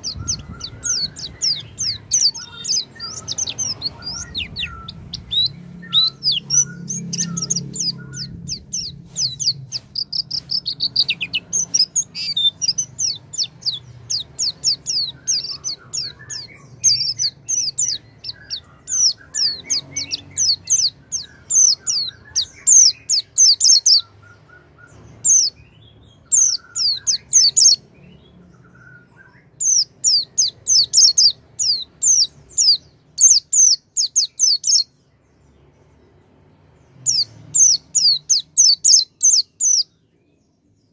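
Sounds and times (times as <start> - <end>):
bird singing high chirps: 0.0 - 40.9.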